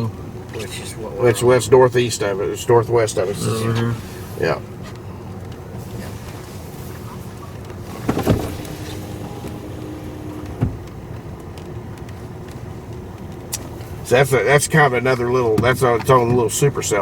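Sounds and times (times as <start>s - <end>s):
vehicle noise inside car cabin: 0.0s - 17.0s.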